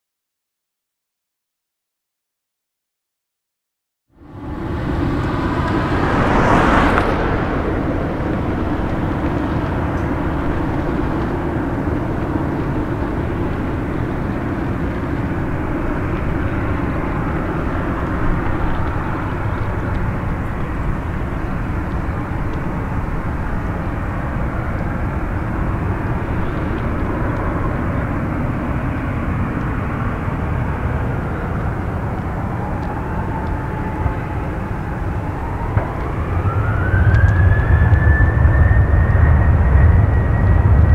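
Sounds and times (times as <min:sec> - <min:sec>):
jet engines rumbling: 0:04.1 - 0:40.9
jet engine whine spooling up: 0:04.2 - 0:40.9.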